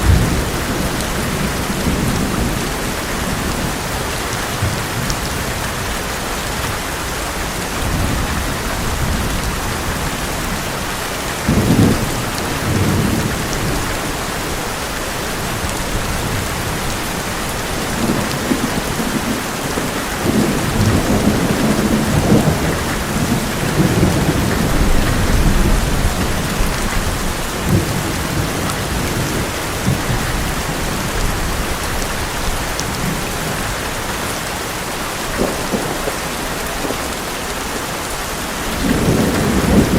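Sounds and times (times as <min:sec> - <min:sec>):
thunder rumbling: 0:00.0 - 0:05.9, 0:11.4 - 0:34.0, 0:35.2 - 0:39.9
heavy rain on a metal roof: 0:00.0 - 0:39.9.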